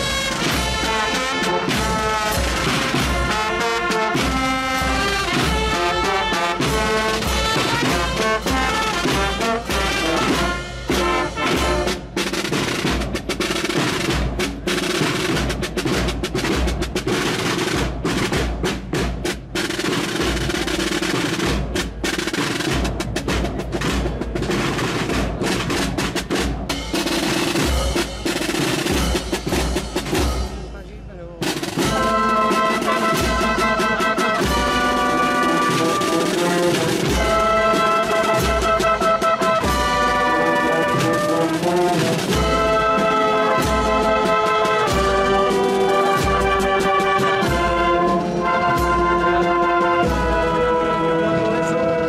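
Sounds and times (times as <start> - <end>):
brass melody: 0.0 - 18.4, 19.2 - 52.0
snare drum rolls: 0.0 - 51.5.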